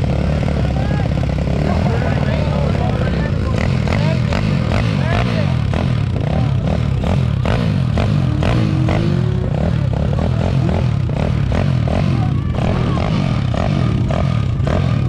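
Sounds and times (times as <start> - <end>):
small motorbike engine revving: 0.0 - 15.0.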